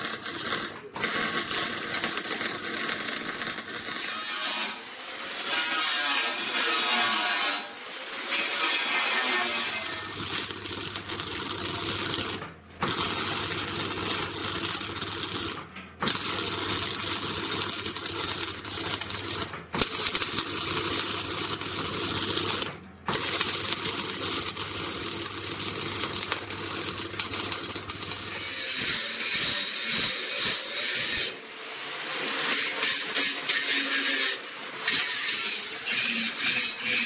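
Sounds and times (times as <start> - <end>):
welding arc crackling: 0.0 - 37.0.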